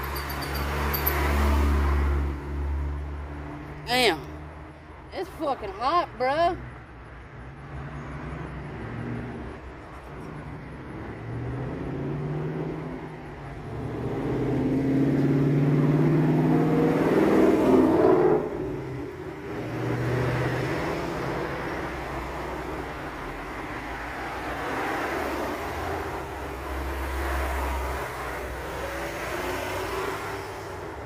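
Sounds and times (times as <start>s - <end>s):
motor vehicle passing: 0.0s - 4.7s, 7.5s - 31.0s.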